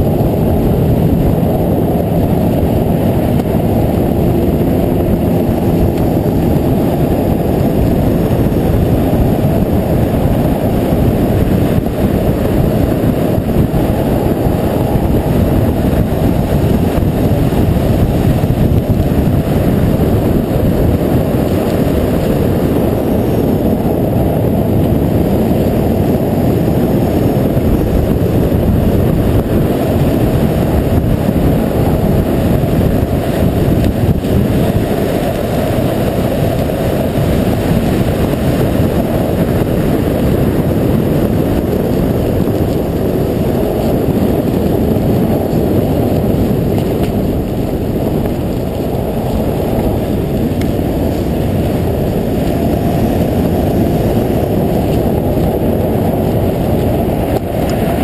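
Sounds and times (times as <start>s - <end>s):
wind and tyre rumble: 0.0s - 58.0s.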